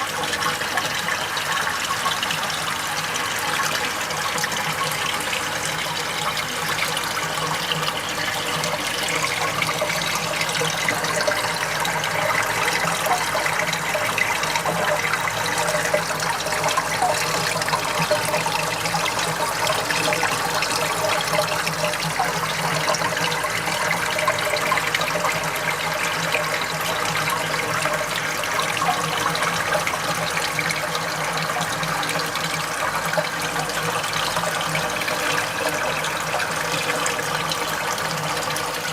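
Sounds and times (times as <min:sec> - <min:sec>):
water flowing and splashing: 0:00.0 - 0:38.9.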